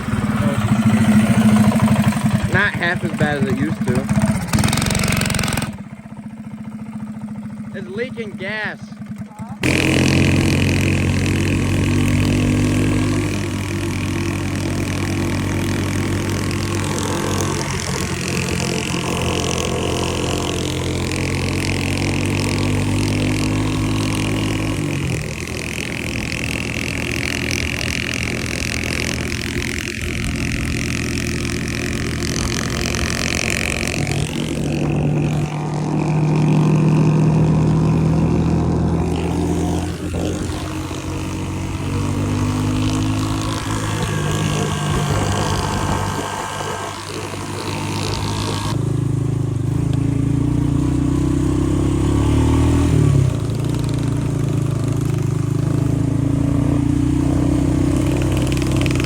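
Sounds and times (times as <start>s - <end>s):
small engine running: 0.0s - 49.1s, 49.7s - 59.0s.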